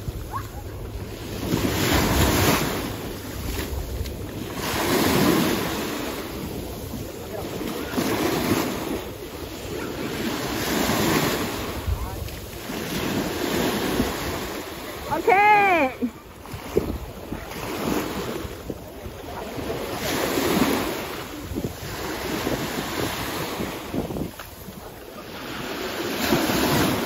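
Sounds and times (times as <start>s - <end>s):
small waves in shallow sea: 0.0s - 27.0s
wind buffeting the microphone: 0.0s - 27.0s.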